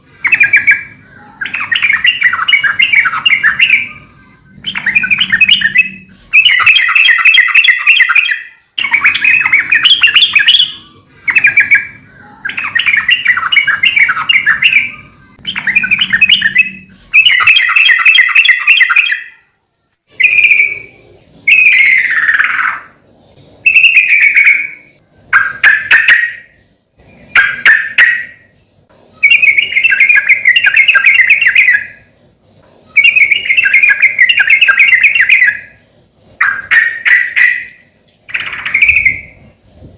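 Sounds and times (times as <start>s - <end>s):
bulbul bubbly chattering song: 0.0s - 19.4s, 20.1s - 32.2s, 32.9s - 39.6s.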